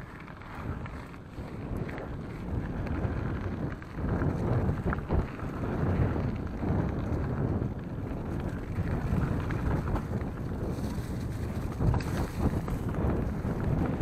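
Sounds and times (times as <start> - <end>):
bike tyres rumbling and rattling: 0.0 - 14.0
wind buffeting microphone: 0.0 - 14.0.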